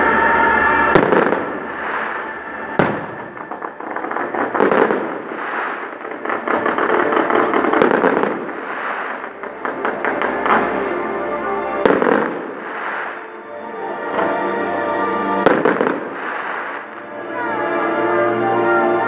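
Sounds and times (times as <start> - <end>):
fireworks bursting: 0.0 - 14.5, 15.3 - 17.8
fireworks crackling: 0.0 - 19.0.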